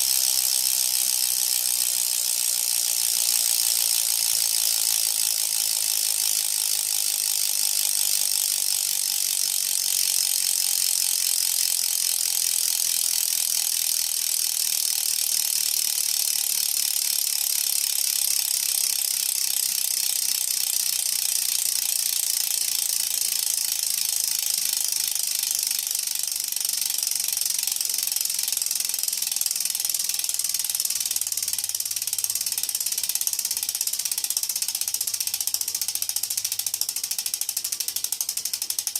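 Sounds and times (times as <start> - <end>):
bicycle hub freewheeling clicks: 0.0 - 38.9.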